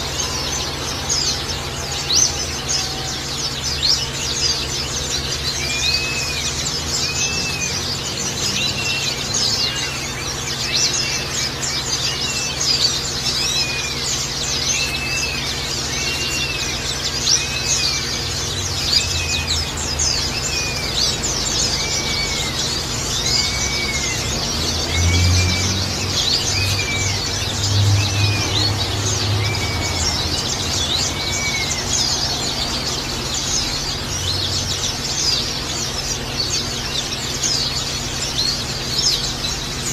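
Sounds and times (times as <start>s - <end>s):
bird whistling: 0.0s - 39.9s
high bird chirps: 0.0s - 39.9s.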